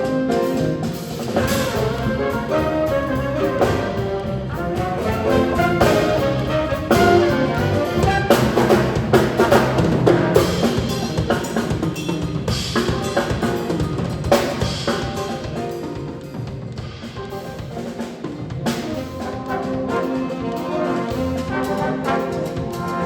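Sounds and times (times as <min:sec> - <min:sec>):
brass instruments: 0:00.0 - 0:16.2, 0:17.0 - 0:23.0
drum kit beat: 0:00.0 - 0:23.0.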